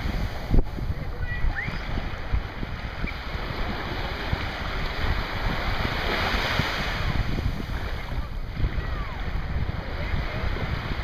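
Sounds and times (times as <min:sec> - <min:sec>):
small waves breaking on sand: 0:00.0 - 0:11.0
wind buffeting microphone: 0:00.0 - 0:11.0.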